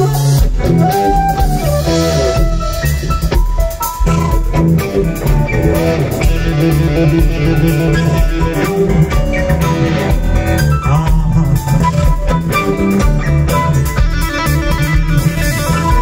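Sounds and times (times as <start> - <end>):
flute lead: 0.0 - 16.0
rock band playing: 0.0 - 16.0.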